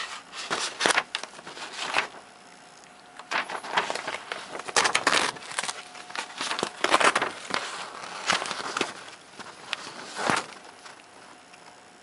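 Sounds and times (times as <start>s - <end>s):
paper rustling and crinkling: 0.0s - 2.2s, 3.2s - 11.5s.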